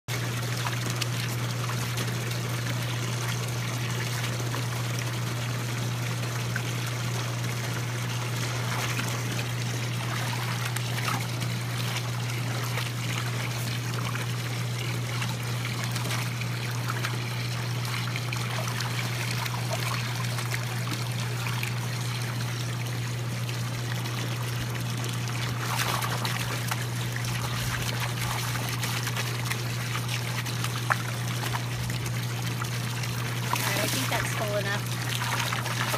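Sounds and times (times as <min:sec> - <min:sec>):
hose water splashing into pool: 0:00.1 - 0:35.9
puppy splashing in water: 0:00.1 - 0:35.9
steady low hum: 0:00.1 - 0:35.9.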